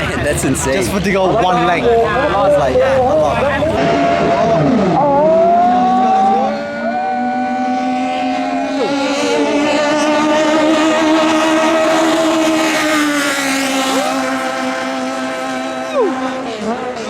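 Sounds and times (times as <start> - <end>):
racing boat engines roaring: 0.0 - 17.0.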